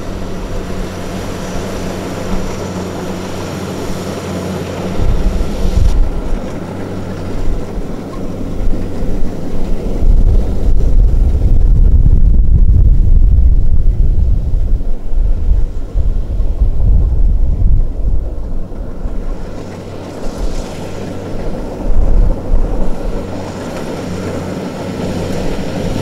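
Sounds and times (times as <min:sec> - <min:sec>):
farm machine engine running: 0:00.0 - 0:26.0
wind rumble on microphone: 0:00.0 - 0:26.0.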